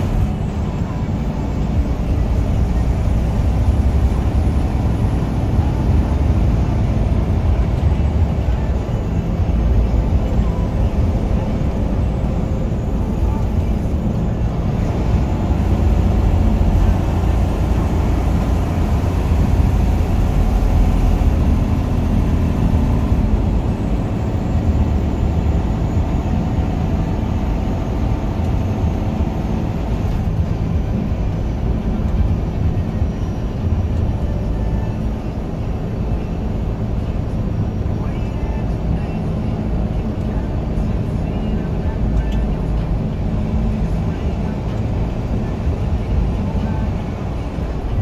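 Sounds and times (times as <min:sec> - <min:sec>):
engine and tyre rumble inside vehicle: 0:00.0 - 0:48.0.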